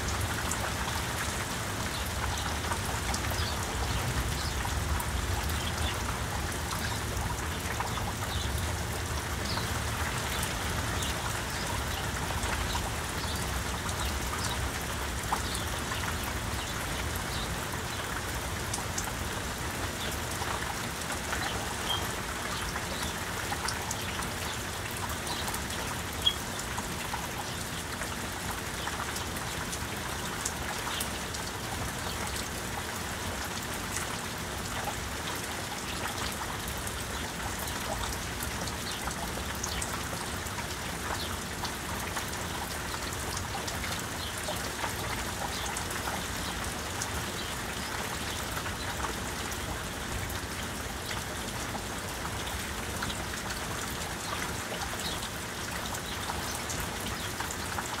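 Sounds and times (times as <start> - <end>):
raindrops ticking nearby: 0.0 - 58.0
steady rain falling: 0.0 - 58.0.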